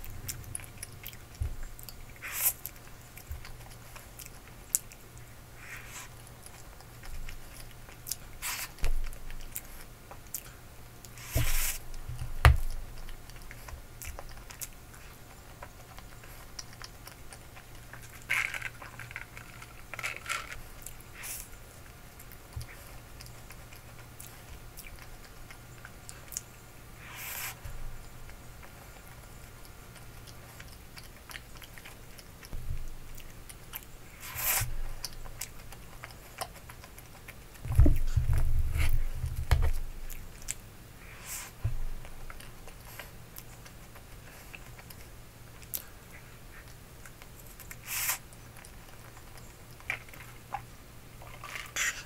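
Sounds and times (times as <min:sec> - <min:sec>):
chewing soft food: 0:00.0 - 0:52.0.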